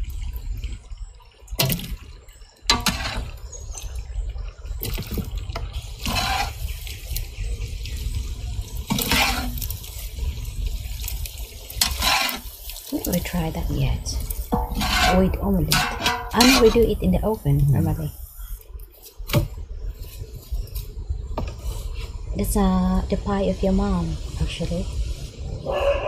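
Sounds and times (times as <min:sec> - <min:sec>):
water sloshing in a pot: 0:00.0 - 0:24.6
low steady rumble: 0:00.0 - 0:25.8.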